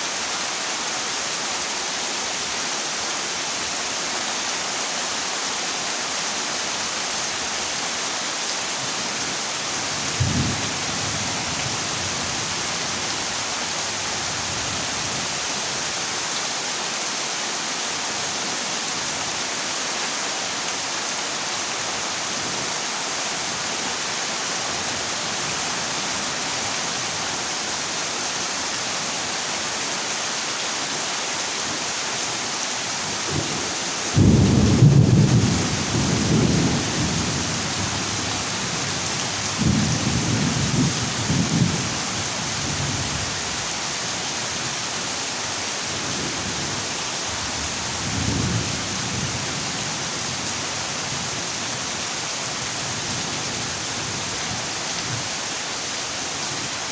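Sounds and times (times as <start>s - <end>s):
heavy rain on a metal roof: 0.0s - 56.9s.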